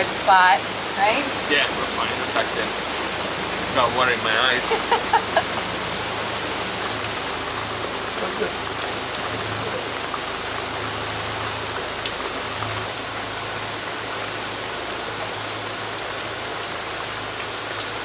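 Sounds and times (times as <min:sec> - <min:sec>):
heavy rain on the sea: 0:00.0 - 0:18.0.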